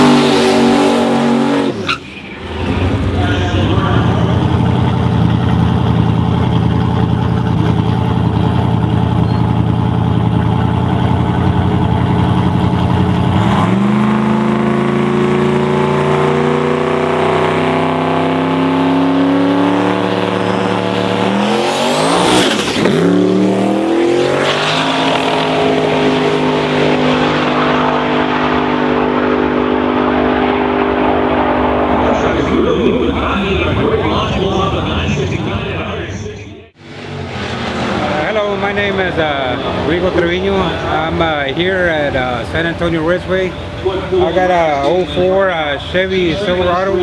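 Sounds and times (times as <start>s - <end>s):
drag racing engine: 0.0s - 47.0s.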